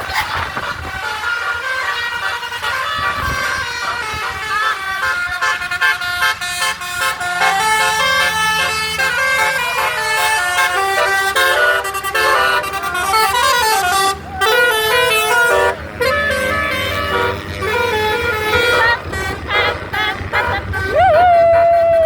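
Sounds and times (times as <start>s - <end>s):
musical bus horn melody: 0.0s - 22.0s.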